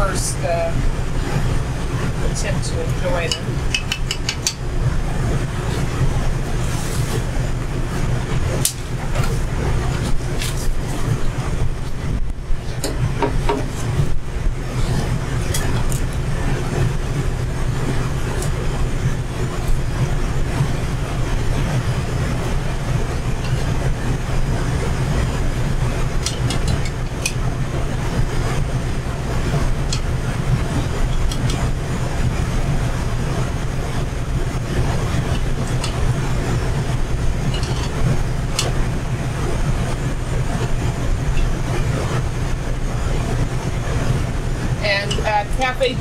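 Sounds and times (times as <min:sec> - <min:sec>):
dough deep-frying in oil: 0:00.0 - 0:45.6
kitchen ventilation rumble: 0:00.0 - 0:46.0.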